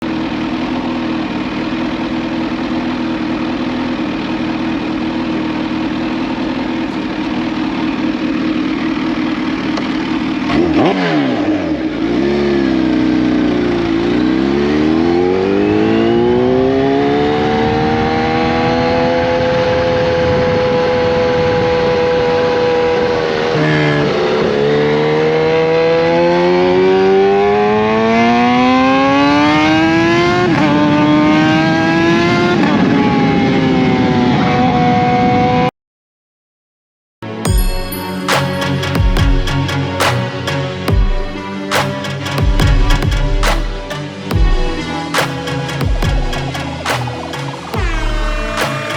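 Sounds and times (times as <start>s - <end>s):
motorcycle engine revving: 0.0s - 34.2s, 38.5s - 48.9s.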